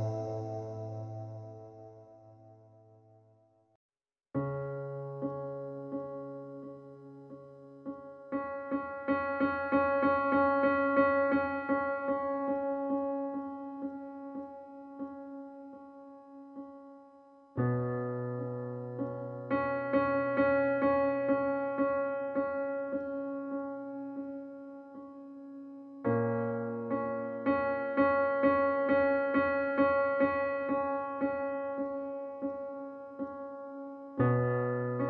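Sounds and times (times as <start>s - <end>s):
piano-like keyboard music: 0.0s - 2.8s, 4.4s - 35.0s.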